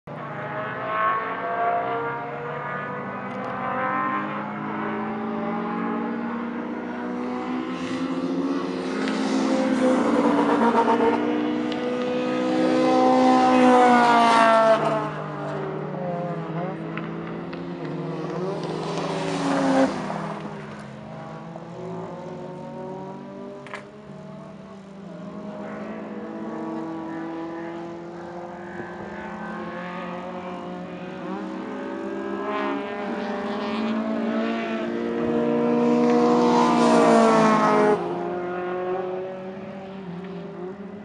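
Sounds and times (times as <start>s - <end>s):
racing car engines revving past: 0.1s - 41.0s.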